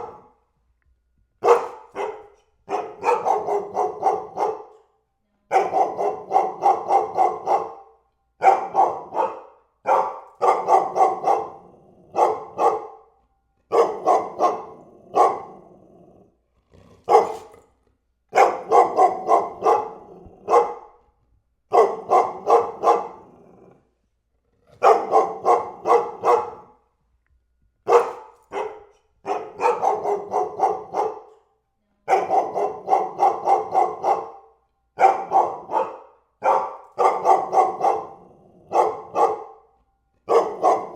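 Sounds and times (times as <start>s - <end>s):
dog barking: 0.0s - 0.4s, 1.4s - 15.9s, 17.0s - 17.7s, 18.3s - 21.0s, 21.7s - 23.6s, 24.8s - 26.9s, 27.8s - 40.9s.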